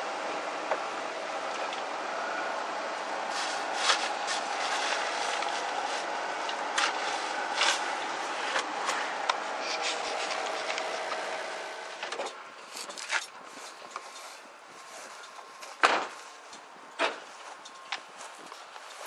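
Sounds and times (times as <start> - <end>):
vehicle road noise: 0.0 - 19.0.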